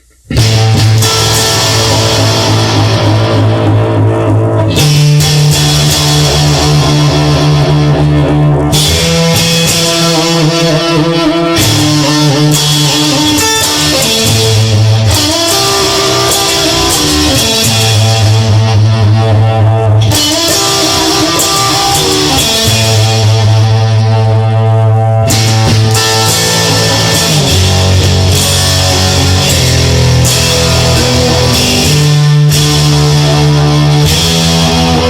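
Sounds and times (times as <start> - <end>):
electric guitar playing: 0.0 - 35.0
sustained bass guitar notes: 0.0 - 35.0.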